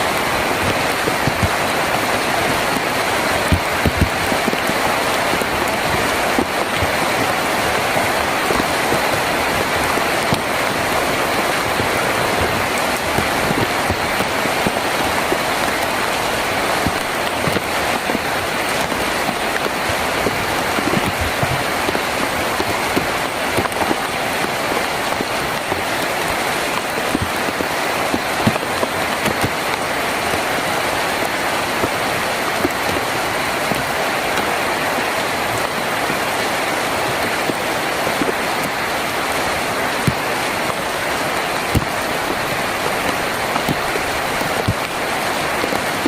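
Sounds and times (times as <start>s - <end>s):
heavy rain on a tin roof: 0.0s - 46.0s.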